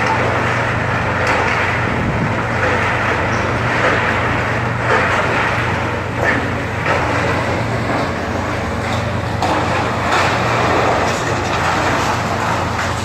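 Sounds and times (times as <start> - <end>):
debris grinding: 0.0 - 13.0
machinery engine drone: 0.0 - 13.0.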